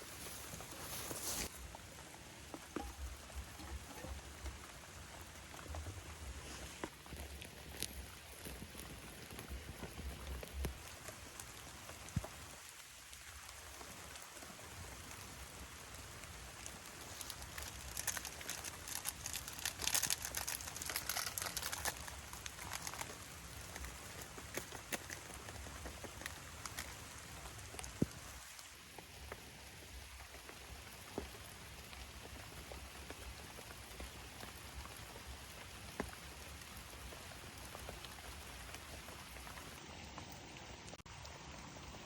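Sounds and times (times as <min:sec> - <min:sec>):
rain falling: 0:00.0 - 0:42.0.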